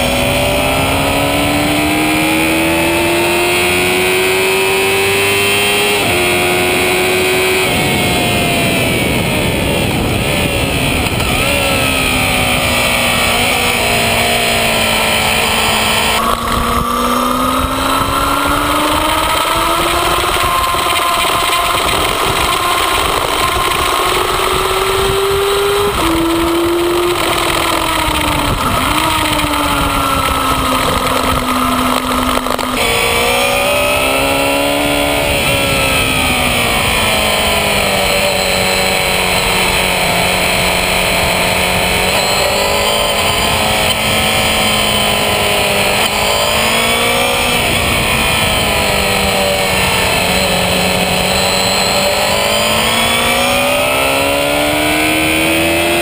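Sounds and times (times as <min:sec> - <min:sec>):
motorcycle engine revving: 0:00.0 - 0:56.0
wind rush: 0:06.0 - 0:55.7.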